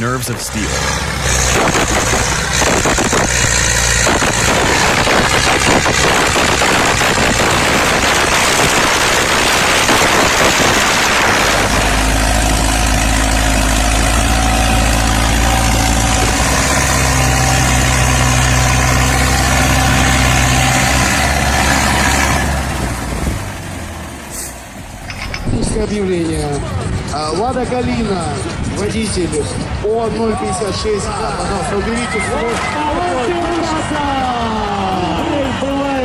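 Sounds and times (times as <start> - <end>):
vehicle engine running: 0.0 - 30.2, 31.0 - 36.0.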